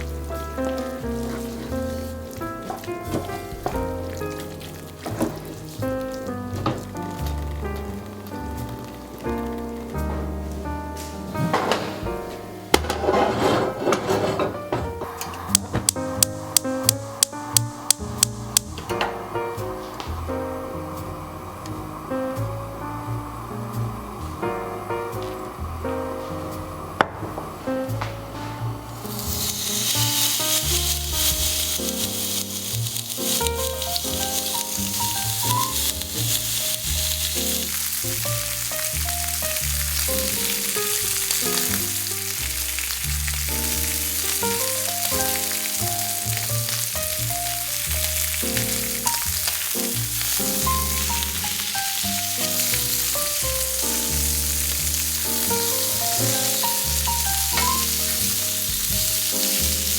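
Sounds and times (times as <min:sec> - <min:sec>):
food sizzling in a pan: 0:00.0 - 0:10.0, 0:15.5 - 0:59.9
background music: 0:00.0 - 0:59.9.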